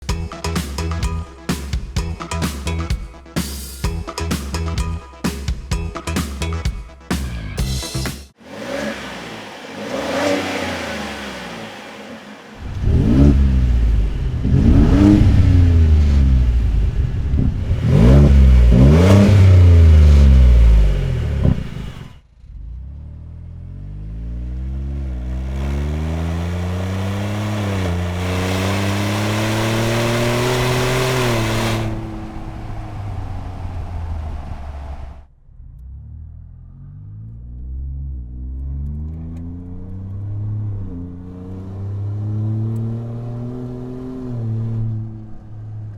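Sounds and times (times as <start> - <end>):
pickup truck engine revving: 7.2 - 45.4.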